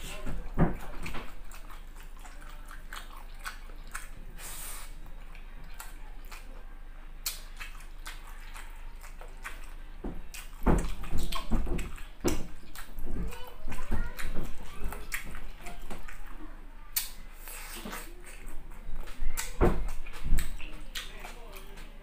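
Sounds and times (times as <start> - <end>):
wet chewing and mouth clicks: 0.0 - 22.0.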